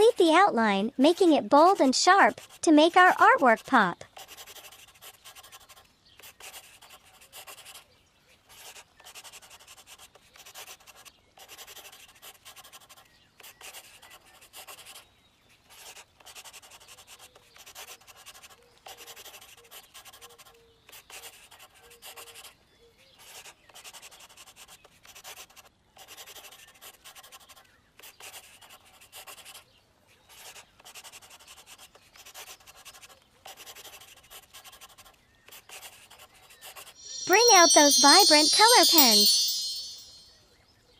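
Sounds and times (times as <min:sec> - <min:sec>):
marker pen drawing on paper: 0:00.0 - 0:07.9, 0:08.5 - 0:15.0, 0:15.6 - 0:22.5, 0:23.2 - 0:29.6, 0:30.3 - 0:36.9.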